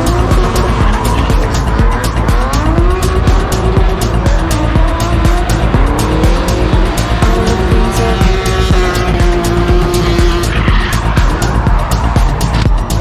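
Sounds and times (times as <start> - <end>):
car engine revving: 0.0 - 13.0
electronic dance music: 0.0 - 13.0.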